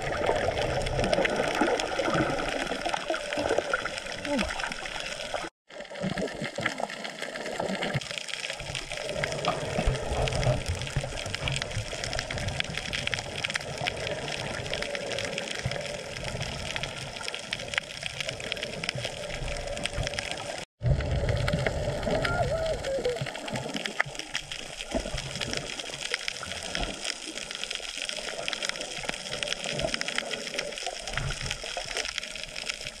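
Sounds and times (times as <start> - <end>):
water rushing and sloshing: 0.0 - 33.0.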